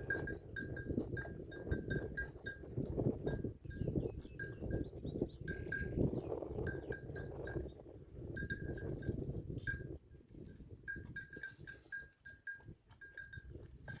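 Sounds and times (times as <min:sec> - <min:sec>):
animal bells clinking: 0:00.0 - 0:14.0.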